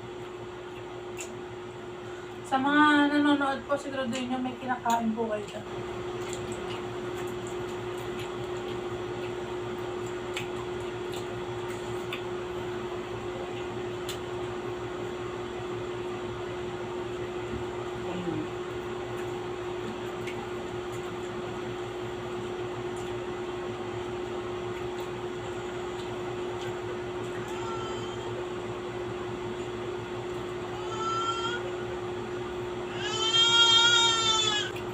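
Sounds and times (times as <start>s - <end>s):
machine hum: 0.0s - 34.9s.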